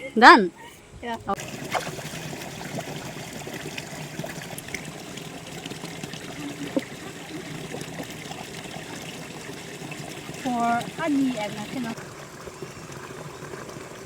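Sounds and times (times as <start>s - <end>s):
water running and trickling: 1.3s - 14.0s.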